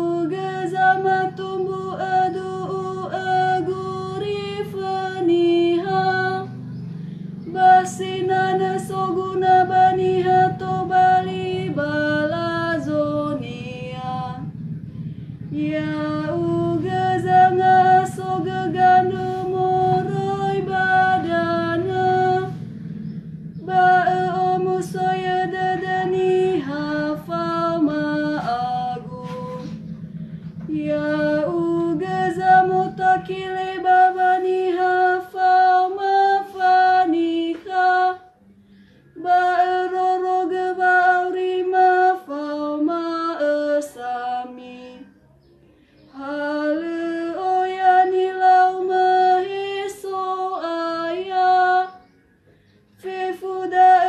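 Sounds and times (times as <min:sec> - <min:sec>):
woman chanting: 0:00.0 - 0:14.6, 0:15.4 - 0:38.5, 0:39.1 - 0:52.2, 0:53.0 - 0:54.0.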